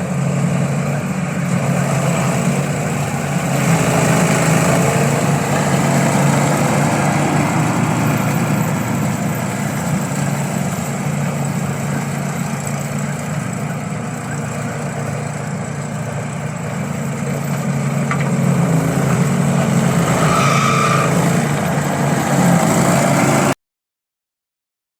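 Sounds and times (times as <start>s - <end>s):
lawn mower engine running: 0.0s - 23.6s.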